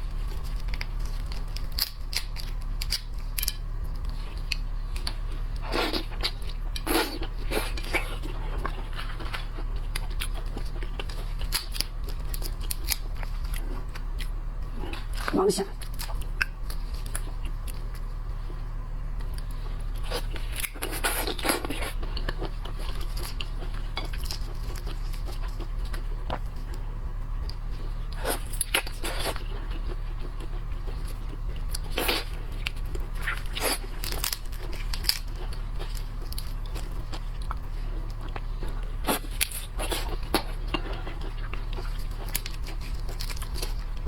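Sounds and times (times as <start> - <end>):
shellfish shells cracking and chewed: 0.0 - 44.0
steady low hum: 0.0 - 44.0.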